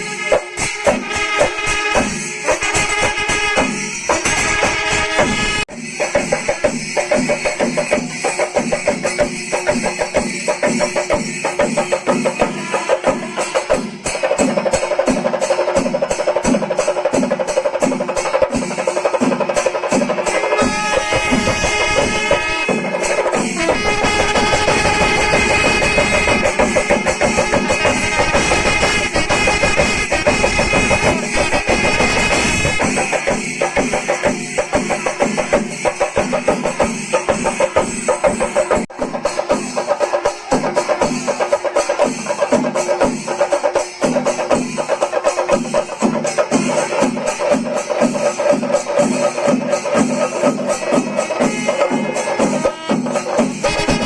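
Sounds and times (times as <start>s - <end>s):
cymbals clashing: 0.0s - 54.0s
drums beating fast rhythm: 0.0s - 54.0s.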